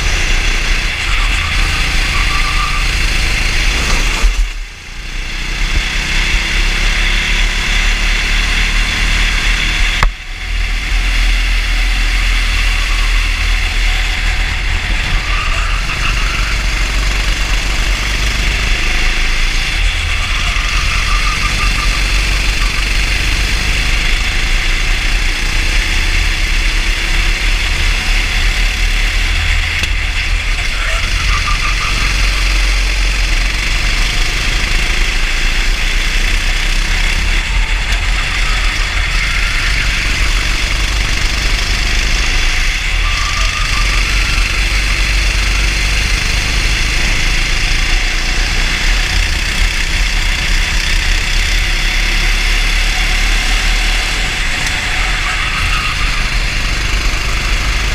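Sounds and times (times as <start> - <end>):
kart engine running: 0.0 - 57.9.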